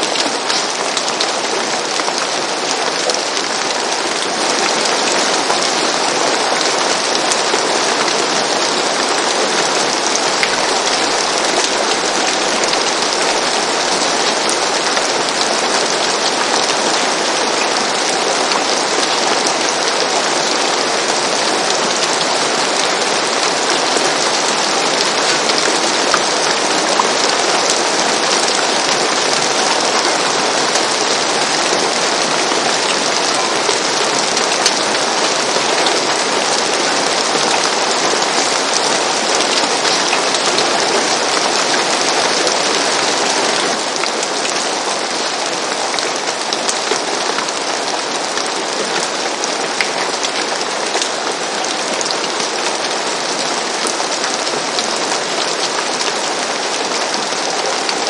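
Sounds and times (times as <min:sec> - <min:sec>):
rain falling on a roof: 0:00.0 - 0:58.0.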